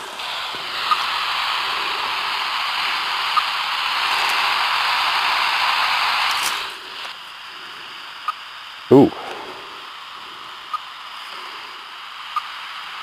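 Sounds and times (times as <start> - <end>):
radio receiver static hiss: 0.0 - 13.0.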